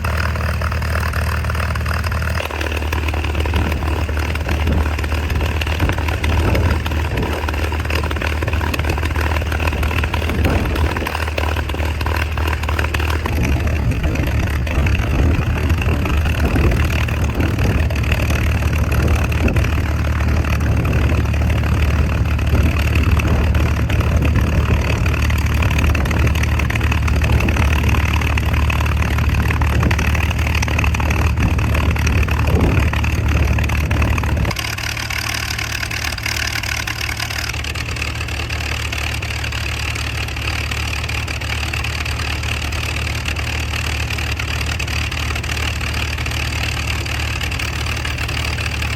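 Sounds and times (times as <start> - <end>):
aircraft engine droning: 0.0 - 48.9.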